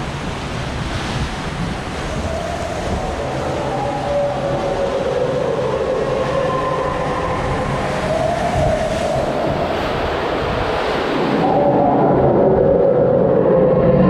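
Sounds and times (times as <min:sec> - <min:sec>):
rushing white water: 0:00.0 - 0:14.0
wavering whine: 0:01.5 - 0:14.0.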